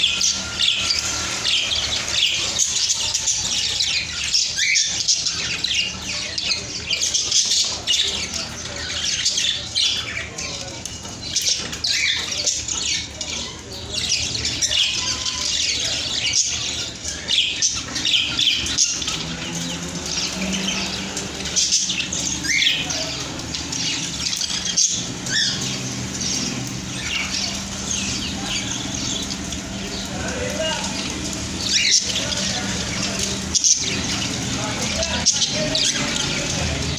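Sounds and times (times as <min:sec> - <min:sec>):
budgerigars chattering: 0:00.0 - 0:36.9.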